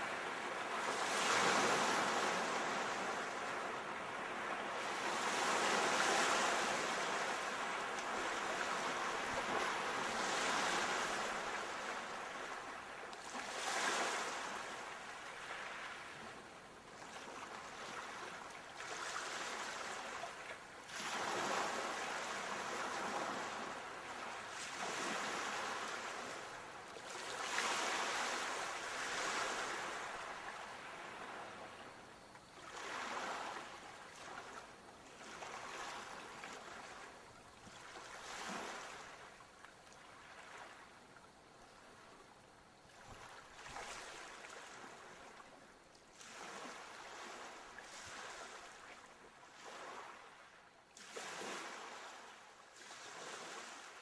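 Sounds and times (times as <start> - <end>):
sea waves breaking on shore: 0.0 - 41.0, 42.8 - 54.0.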